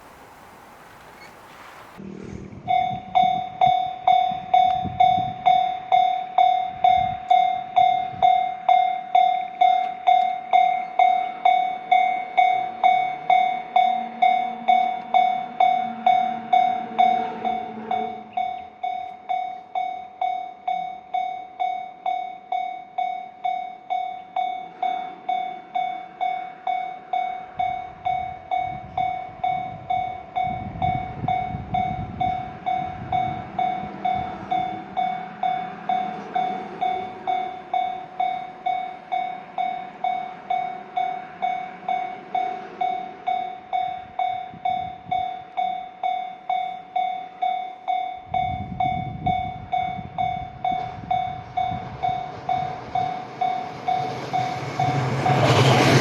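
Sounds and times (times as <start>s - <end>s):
train rumbling past: 0.0s - 56.0s
level crossing bell ringing: 2.7s - 55.0s.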